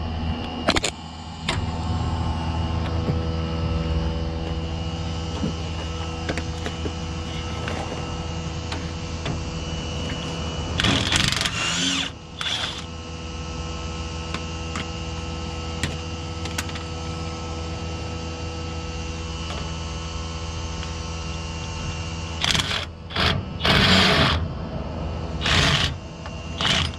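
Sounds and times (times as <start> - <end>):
shop machinery humming: 0.0 - 26.9.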